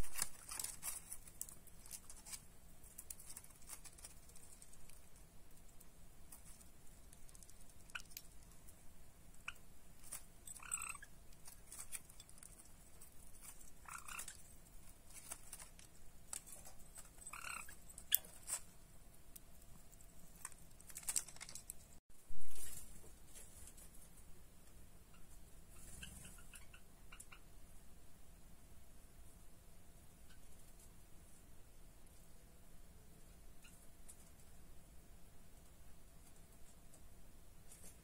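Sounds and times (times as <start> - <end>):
birds pecking and scratching: 0.0 - 27.5, 30.0 - 34.8, 35.5 - 38.0.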